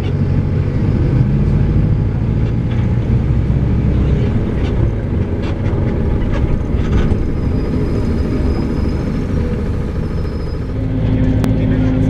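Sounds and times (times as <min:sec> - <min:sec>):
bus diesel engine running: 0:00.0 - 0:12.0
road rumble: 0:00.0 - 0:12.0.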